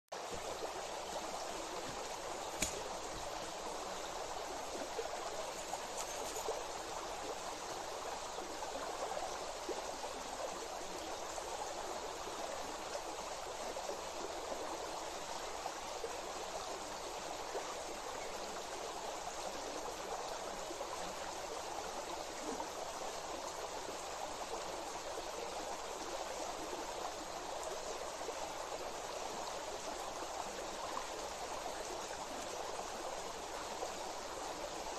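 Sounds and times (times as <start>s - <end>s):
water flowing: 0.2s - 34.9s.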